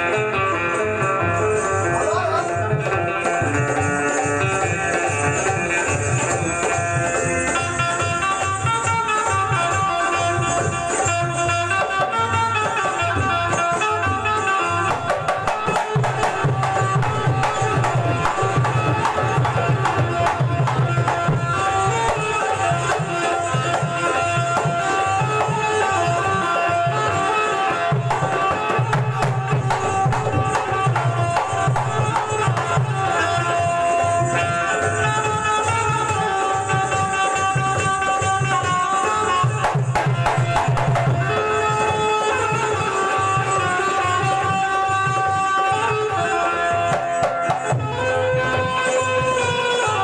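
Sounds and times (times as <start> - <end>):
hand drums beat: 0.0 - 50.0
plucked string melody: 0.0 - 50.0.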